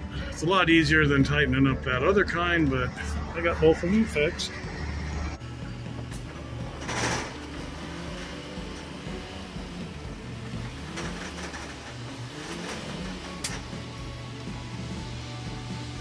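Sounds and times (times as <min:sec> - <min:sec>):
truck engine running low: 0:00.0 - 0:16.0.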